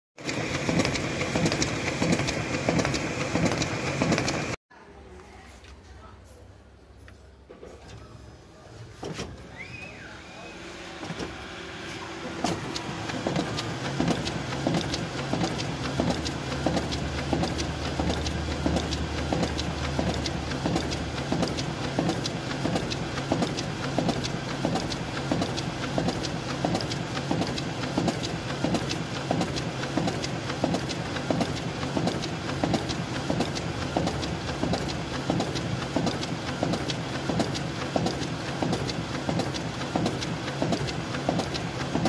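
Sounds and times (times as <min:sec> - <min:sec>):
printing machine clacking: 0:00.2 - 0:04.6, 0:10.9 - 0:42.0.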